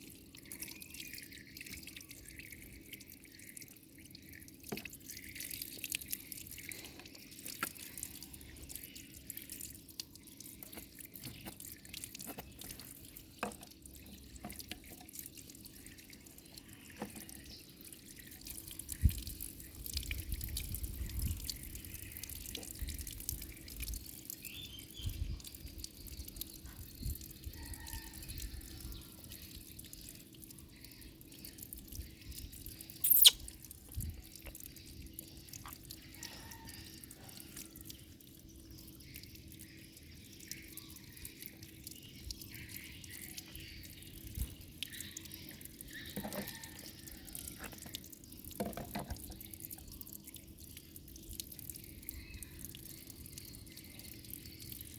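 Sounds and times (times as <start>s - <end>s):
water dripping and splashing: 0.0s - 54.9s.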